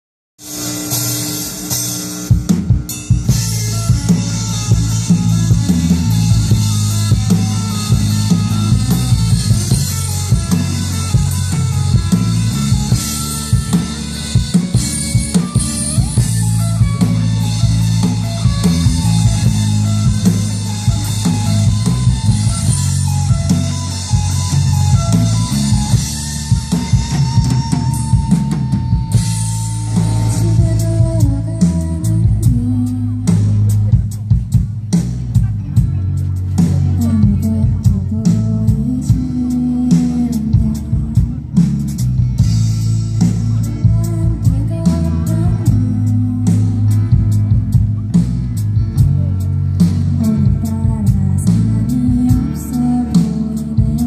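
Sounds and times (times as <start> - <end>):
bass guitar: 0.4 - 54.0
drum kit beat: 0.4 - 54.0
electric guitar: 0.4 - 54.0.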